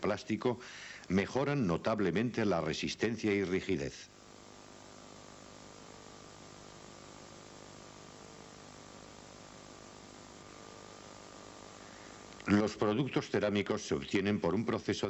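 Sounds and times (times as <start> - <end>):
background hiss: 0.0 - 15.0
electrical hum: 0.0 - 15.0.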